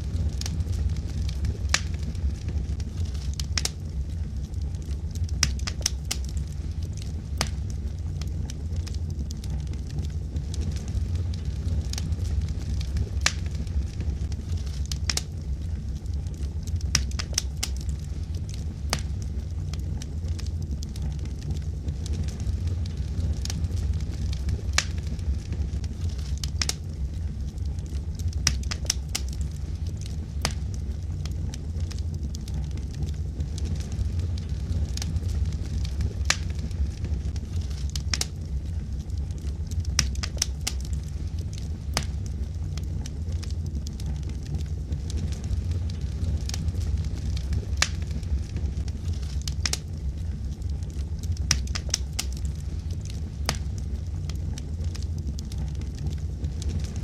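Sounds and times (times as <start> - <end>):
fire crackling and popping: 0.0 - 57.0
low rumble of flame: 0.0 - 57.0.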